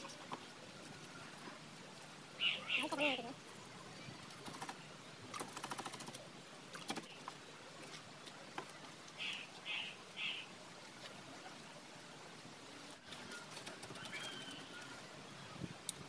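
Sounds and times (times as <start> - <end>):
faint outdoor background: 0.0 - 16.0.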